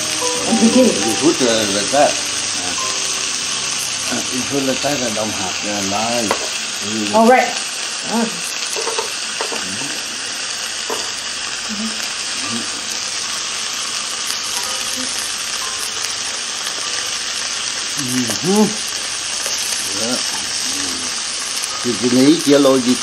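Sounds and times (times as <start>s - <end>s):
food sizzling on a grill: 0.0s - 23.0s.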